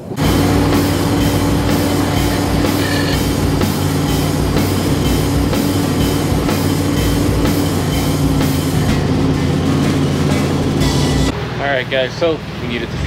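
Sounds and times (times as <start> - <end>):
rock music: 0.0 - 11.6.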